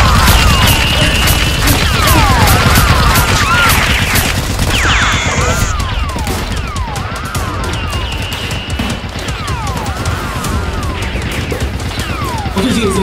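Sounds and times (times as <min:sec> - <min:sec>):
rapid automatic gunfire effects: 0:00.0 - 0:13.0.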